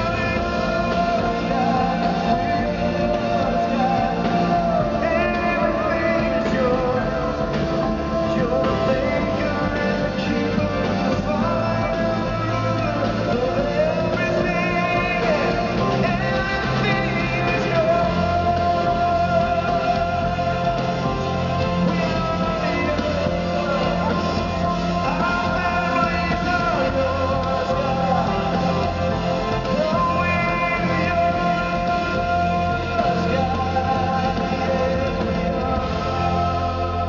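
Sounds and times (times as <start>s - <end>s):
live rock band playing: 0.0s - 37.0s
man singing lead vocal: 0.0s - 37.0s.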